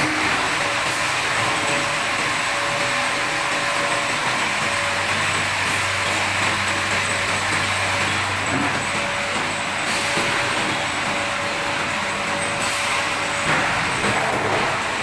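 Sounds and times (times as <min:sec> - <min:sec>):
filling machine running: 0:00.0 - 0:15.0.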